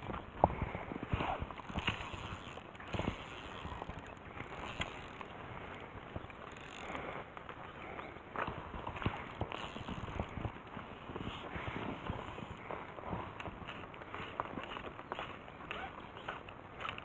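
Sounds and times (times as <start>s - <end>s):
fishing gear knocks and clicks: 0.0s - 11.3s, 12.0s - 17.0s.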